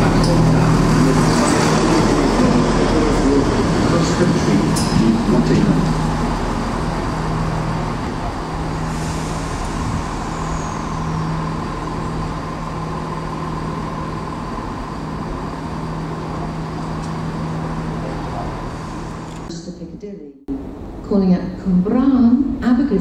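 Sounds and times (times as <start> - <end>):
diesel engine hum: 0.0 - 19.6.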